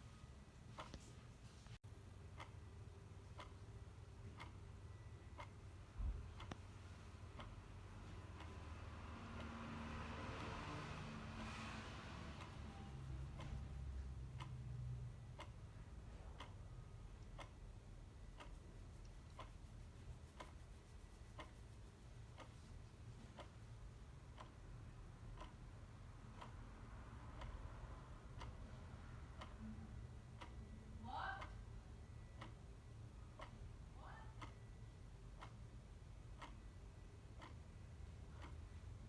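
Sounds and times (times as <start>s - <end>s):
clock ticking: 0.0s - 1.2s, 1.8s - 39.0s
low steady hum: 0.0s - 39.0s.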